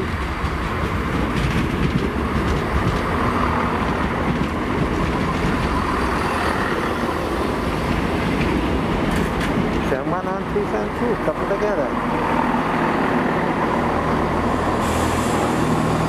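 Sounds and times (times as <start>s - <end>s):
diesel train engines rumbling: 0.0s - 16.0s
train wheels on rails: 0.0s - 16.0s.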